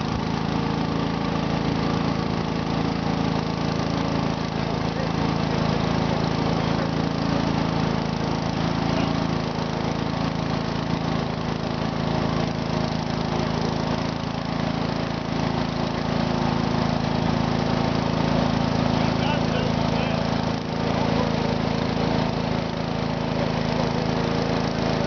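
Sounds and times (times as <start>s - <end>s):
garden tractor engine running: 0.0s - 25.0s.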